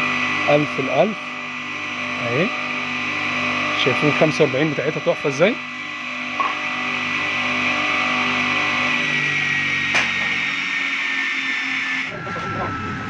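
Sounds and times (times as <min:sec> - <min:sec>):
table saw motor whining: 0:00.0 - 0:13.0.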